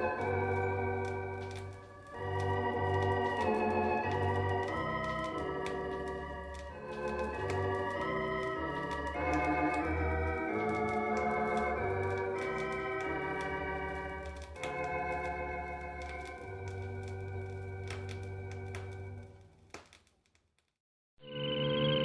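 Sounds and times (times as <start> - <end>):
organ music chords: 0.0 - 19.2
vinyl record crackle: 0.0 - 20.6.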